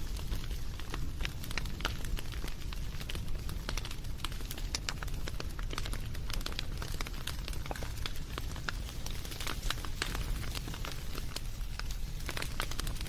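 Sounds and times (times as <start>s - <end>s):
campfire crackling and popping: 0.0s - 13.0s
fire low rumble: 0.0s - 13.0s.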